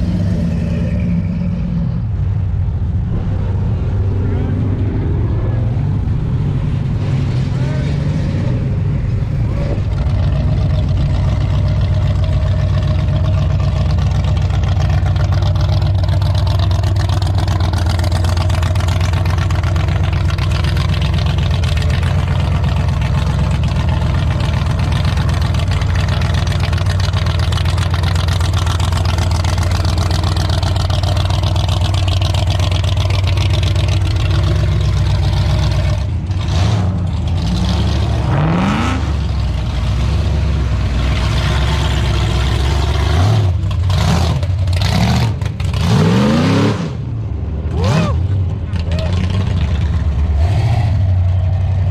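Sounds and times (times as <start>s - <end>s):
car engine revving: 0.0s - 51.9s
car engine running: 0.0s - 51.9s.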